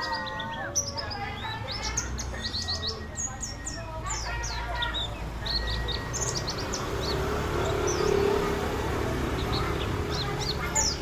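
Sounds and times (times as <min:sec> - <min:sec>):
birds chirping high notes: 0:00.0 - 0:11.0.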